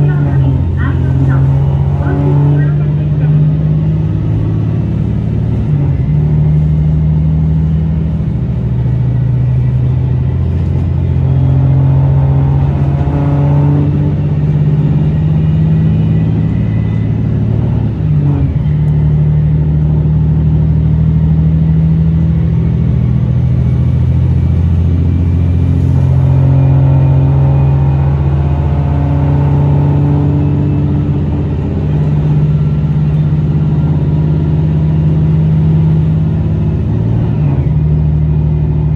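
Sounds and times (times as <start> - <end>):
diesel railcar engine drone: 0.0 - 38.9.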